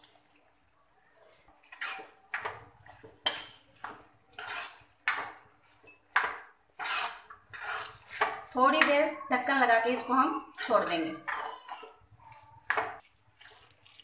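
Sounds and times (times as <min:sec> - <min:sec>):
spatula scraping metal pan: 0:01.6 - 0:13.8.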